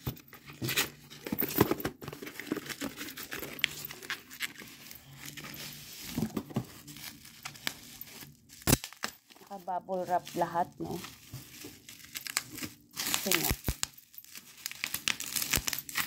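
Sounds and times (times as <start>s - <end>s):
cardboard and bubble wrap tearing: 2.0s - 16.0s.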